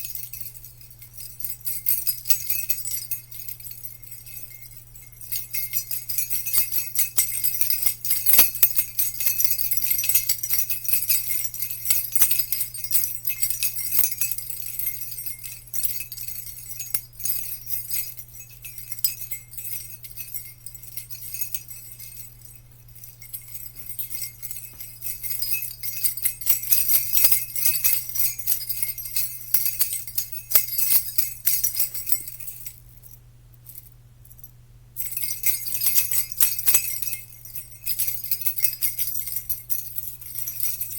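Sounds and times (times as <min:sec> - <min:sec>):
jingle bells shaken: 0:00.0 - 0:40.9.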